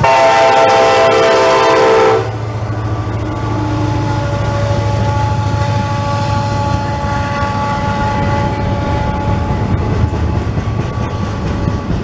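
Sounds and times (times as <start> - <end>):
freight train wheels on rails: 0.0 - 12.0
steady high whine: 0.0 - 12.0.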